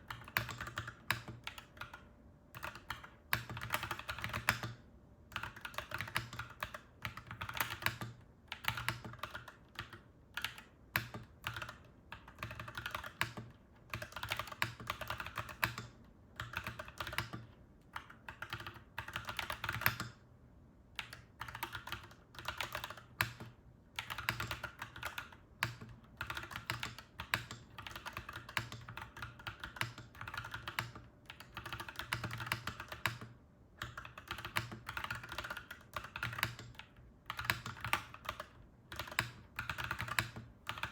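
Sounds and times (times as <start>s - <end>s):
mechanical keyboard typing: 0.0s - 20.2s, 21.0s - 40.9s.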